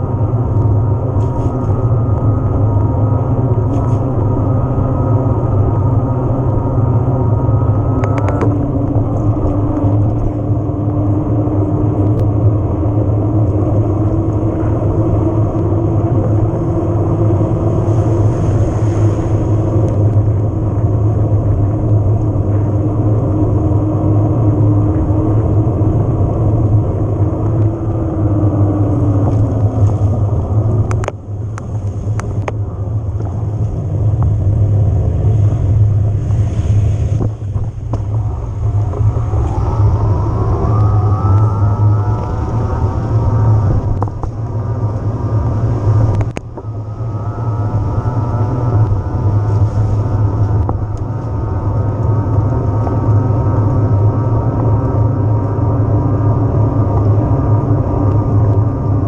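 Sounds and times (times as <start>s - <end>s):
electric bike motor hum: 0.0s - 59.0s
wind and tyre rumble: 0.0s - 59.0s.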